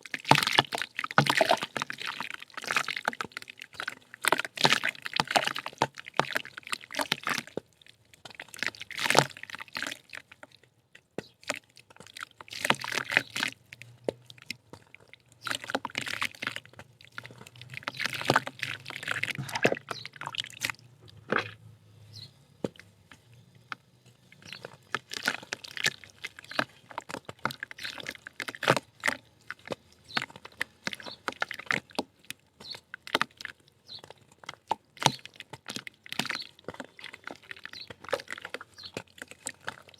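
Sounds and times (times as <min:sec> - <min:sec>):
wet mud crumbling: 0:00.0 - 0:21.7, 0:22.6 - 0:39.9
small water drips and splashes: 0:00.0 - 0:39.9.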